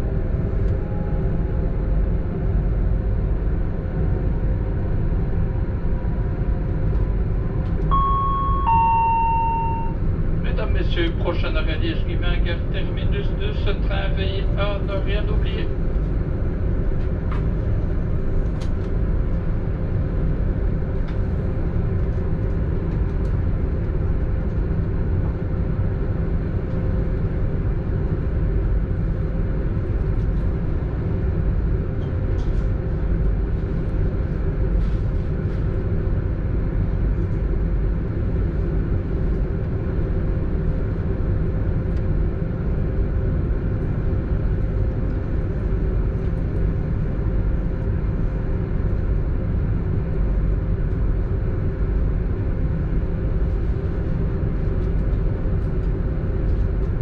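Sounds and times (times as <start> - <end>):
steady hum: 0.0 - 57.0
train running rumble: 0.0 - 57.0.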